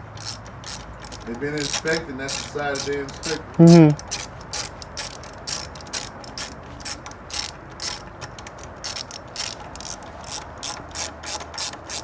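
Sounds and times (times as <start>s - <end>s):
hand ratchet clicking: 0.0s - 12.0s.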